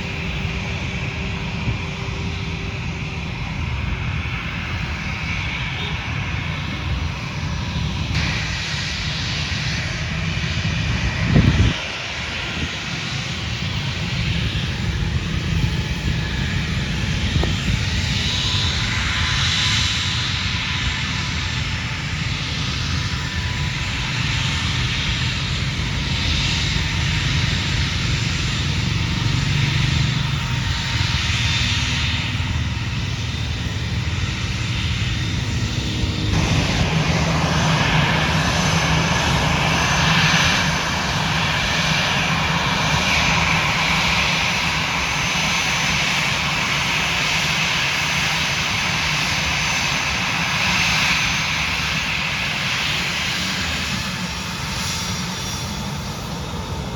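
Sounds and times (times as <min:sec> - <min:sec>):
airliner engines droning: 0:00.0 - 0:56.9.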